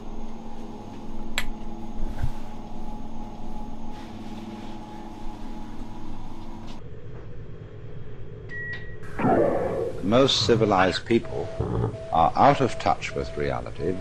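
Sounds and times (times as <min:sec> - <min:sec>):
elevator mechanical hum: 0:00.0 - 0:14.0.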